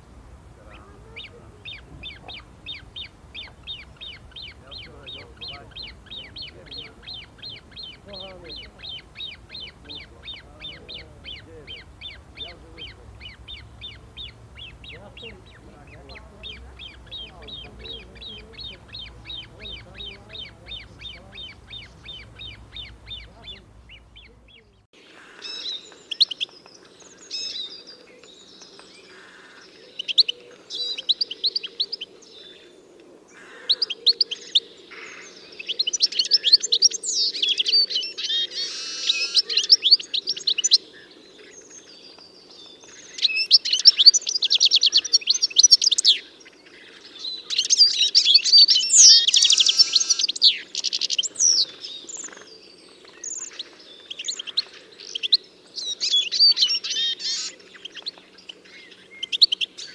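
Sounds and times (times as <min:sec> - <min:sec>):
steady low background noise: 0:00.0 - 0:59.9
songbird trilling and chirping: 0:00.6 - 0:59.9.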